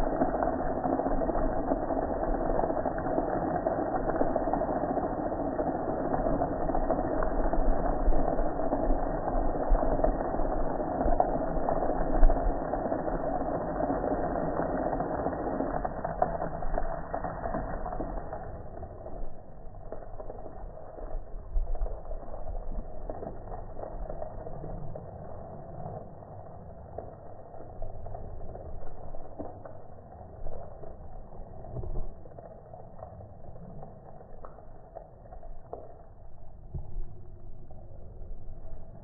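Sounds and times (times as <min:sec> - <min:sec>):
water splashing onto concrete: 0:00.0 - 0:39.0.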